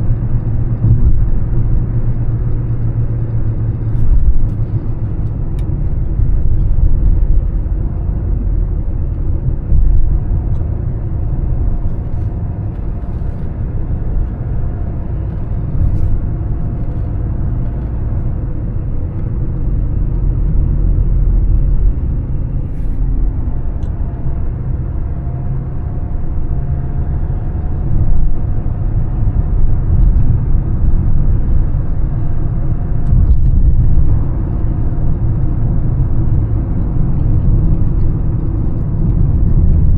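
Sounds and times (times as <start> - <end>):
diesel car engine running: 0.0 - 39.9
tyres rumbling on road: 0.0 - 39.9.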